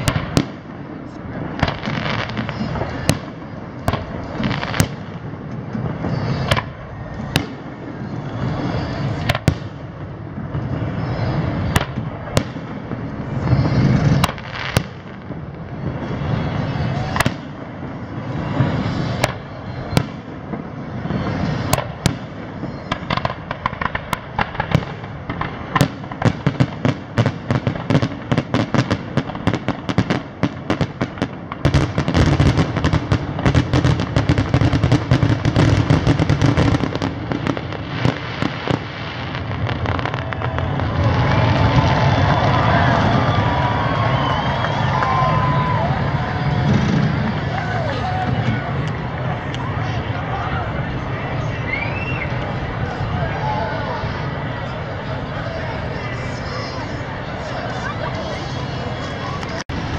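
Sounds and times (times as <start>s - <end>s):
fireworks bursting with sharp bangs: 0.0s - 59.9s.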